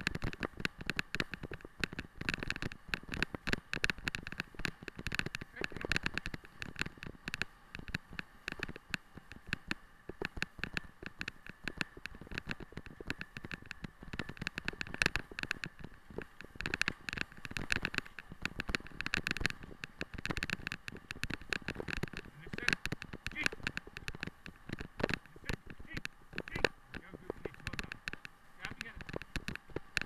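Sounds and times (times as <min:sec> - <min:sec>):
rig rattling over rough track: 0:00.0 - 0:30.0.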